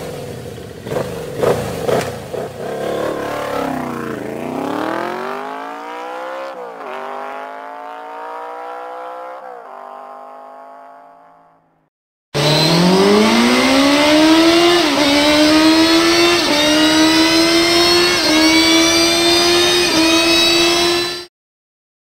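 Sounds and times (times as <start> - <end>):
motorcycle engine revving: 0.0 - 21.3.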